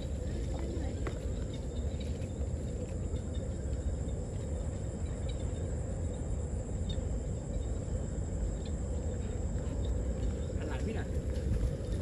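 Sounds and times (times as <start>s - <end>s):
crickets trilling: 0.0s - 11.9s
low background rumble: 0.0s - 12.0s.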